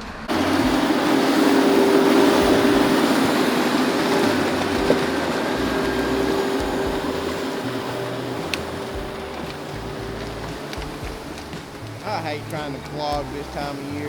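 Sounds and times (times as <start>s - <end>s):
large engine humming: 0.0s - 14.0s.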